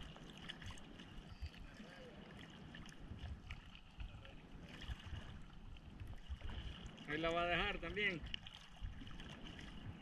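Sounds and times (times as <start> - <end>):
water lapping against surfboard: 0.0 - 10.0.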